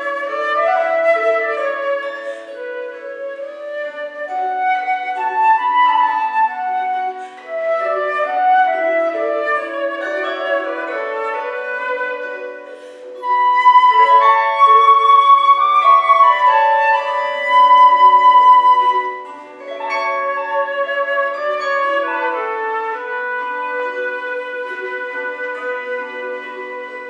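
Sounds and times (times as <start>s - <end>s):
flute playing folk melody: 0.0s - 27.0s.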